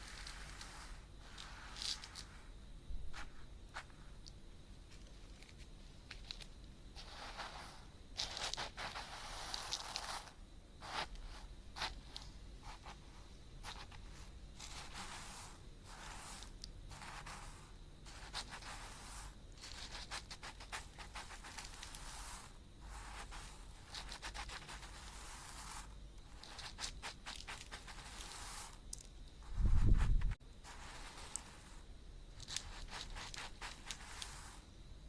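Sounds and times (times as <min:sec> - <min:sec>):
scratching and rubbing strokes: 0:00.0 - 0:02.5, 0:03.1 - 0:04.3, 0:04.9 - 0:34.7.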